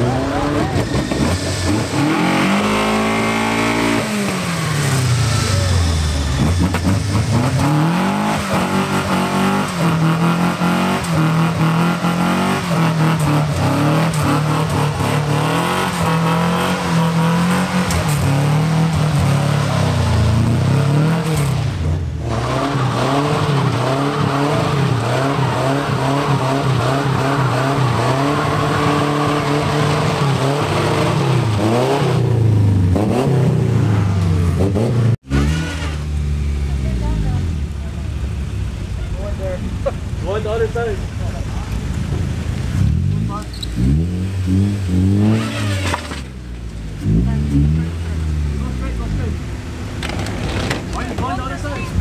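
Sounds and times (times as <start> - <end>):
pickup truck engines revving: 0.0 - 52.0.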